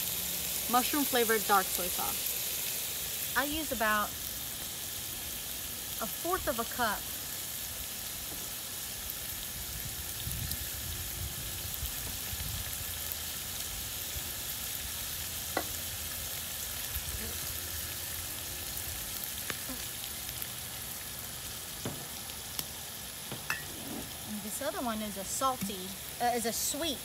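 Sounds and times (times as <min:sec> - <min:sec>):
meat sizzling in a pot: 0:00.0 - 0:27.0.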